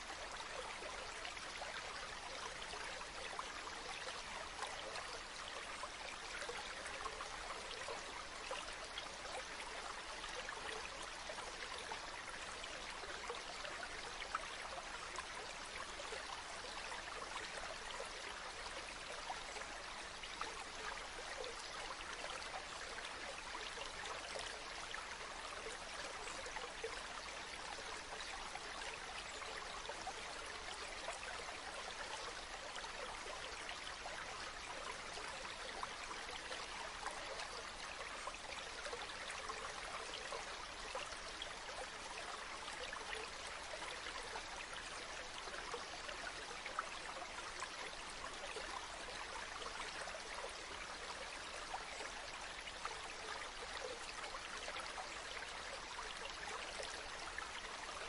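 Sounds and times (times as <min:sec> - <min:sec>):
river water flowing over stones: 0:00.0 - 0:58.0.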